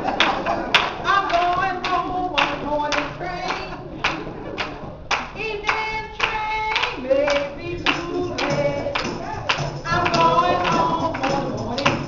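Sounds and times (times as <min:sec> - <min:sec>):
gospel singing: 0:00.0 - 0:12.0
hand clapping on the beat: 0:00.1 - 0:12.0.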